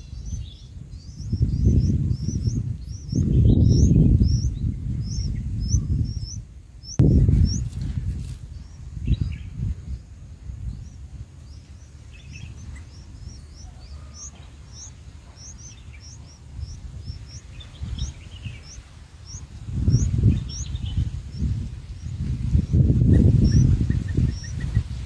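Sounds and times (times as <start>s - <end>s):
nestlings cheeping: 0.0s - 8.9s, 10.6s - 24.9s.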